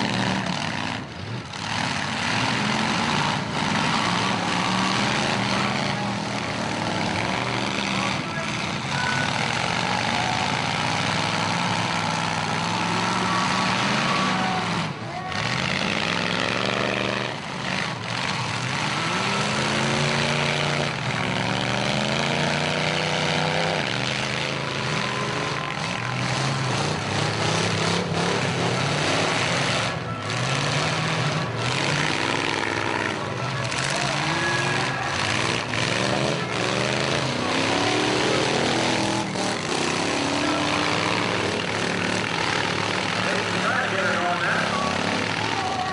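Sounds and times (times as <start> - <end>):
many car engines revving: 0.0 - 45.9.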